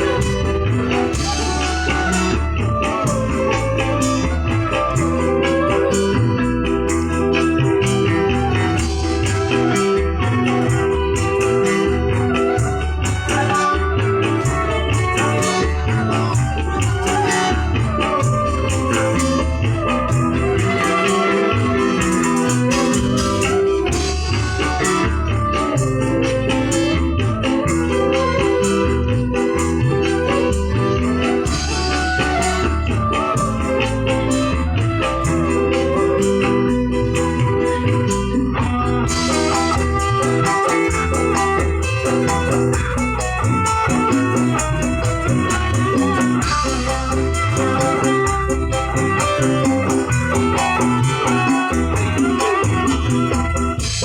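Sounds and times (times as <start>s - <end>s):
bass beat: 0.0s - 54.0s
keyboard organ: 0.0s - 54.0s
loud band music with guitar: 0.0s - 54.0s
tambourine-like percussion: 0.0s - 54.0s.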